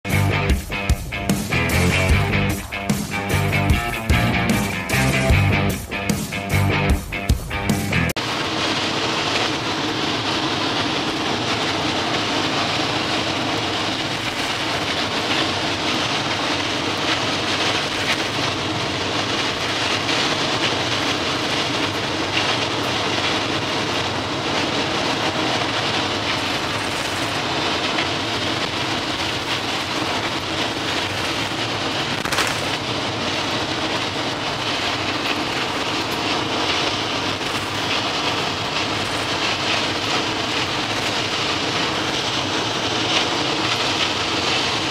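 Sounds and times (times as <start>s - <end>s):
vehicle engine and road rumble: 0.0s - 44.9s.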